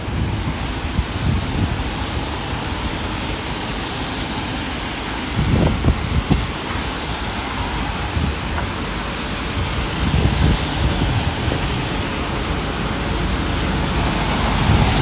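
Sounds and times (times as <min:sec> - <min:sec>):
steady rain: 0:00.0 - 0:15.0
wind: 0:00.0 - 0:15.0
wind gusts buffeting microphone: 0:00.0 - 0:15.0.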